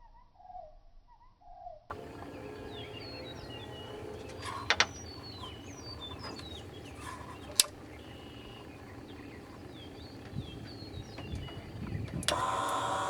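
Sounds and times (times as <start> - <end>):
sharp clicks: 1.9 - 13.0
small birds chirping: 1.9 - 13.0.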